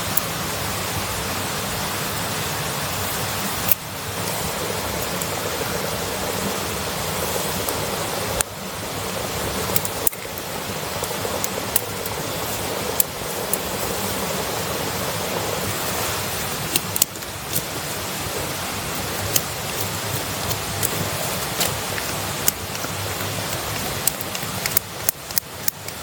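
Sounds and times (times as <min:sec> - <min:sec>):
steady rushing hiss: 0:00.0 - 0:26.0
campfire crackling and popping: 0:03.4 - 0:26.0.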